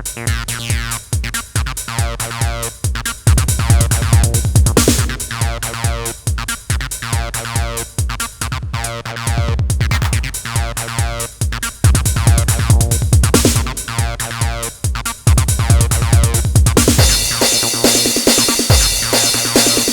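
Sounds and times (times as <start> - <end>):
acid bassline: 0.0 - 19.9
drum machine house beat: 0.0 - 19.9
heavy low kick drum: 0.0 - 19.9.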